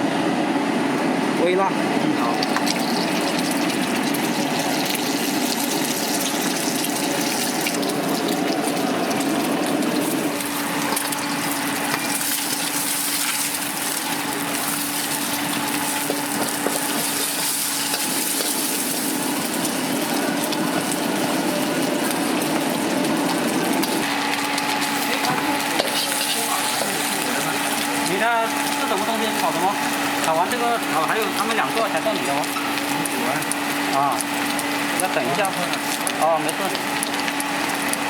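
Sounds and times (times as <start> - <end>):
gas burner rushing: 0.0 - 38.0.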